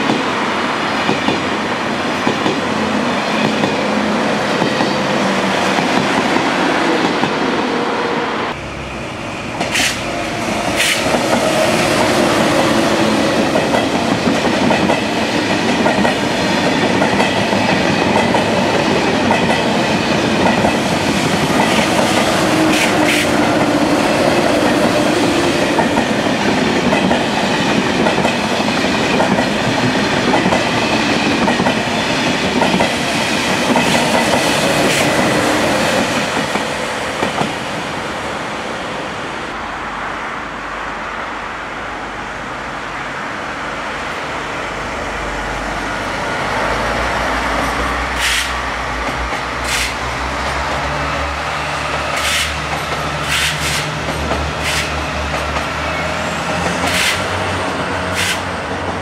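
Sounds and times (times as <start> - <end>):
high-speed train passing: 0.0 - 59.0.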